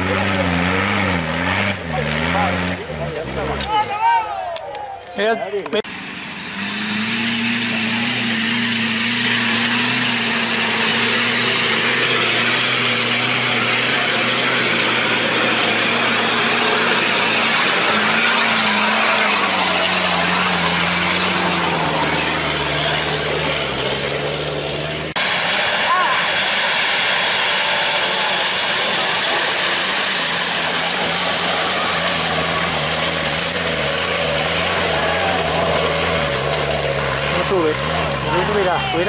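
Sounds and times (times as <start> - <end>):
car engine at high revs: 0.0 - 3.9, 5.6 - 39.0.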